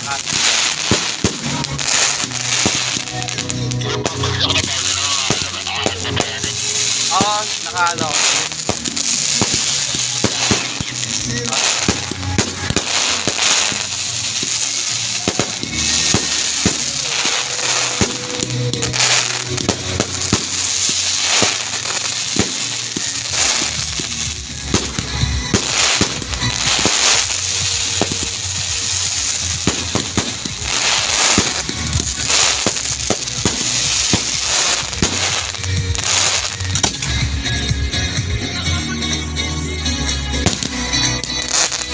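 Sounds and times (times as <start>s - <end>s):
fireworks bangs and crackling pops: 0.0s - 38.6s, 40.3s - 41.9s.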